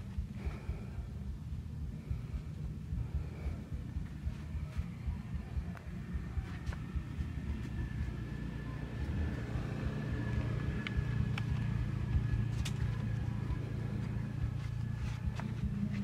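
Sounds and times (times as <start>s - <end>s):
faint high whine: 0.0s - 16.0s
low steady rumble: 0.0s - 16.0s.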